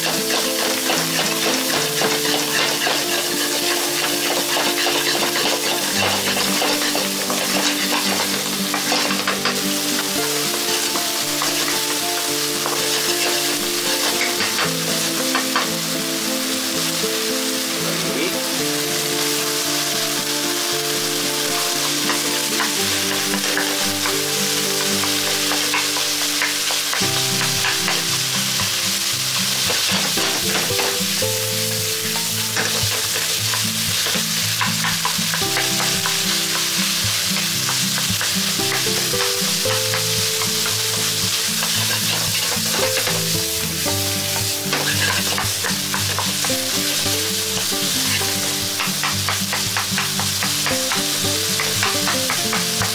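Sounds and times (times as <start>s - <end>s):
wooden spatula scraping a pan: 0.0s - 15.8s, 18.4s - 52.9s
meat sizzling in hot oil: 0.0s - 52.9s.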